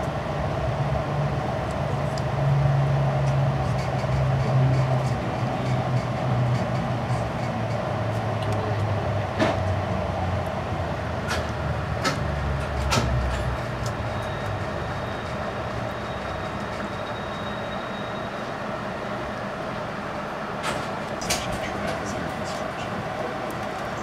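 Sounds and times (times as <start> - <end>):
train running rumble: 0.0 - 24.0.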